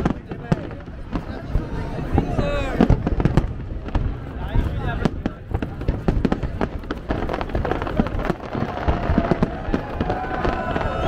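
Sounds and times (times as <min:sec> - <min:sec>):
fireworks crackling pops: 0:00.0 - 0:11.0.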